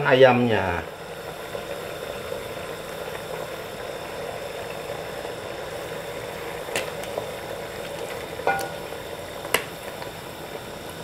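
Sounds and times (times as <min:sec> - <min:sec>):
sauce bubbling in a pot: 0:00.2 - 0:11.0.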